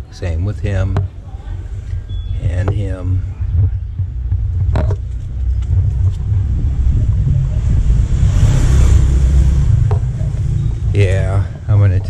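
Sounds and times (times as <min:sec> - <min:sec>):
wind buffeting microphone: 0:00.8 - 0:12.0.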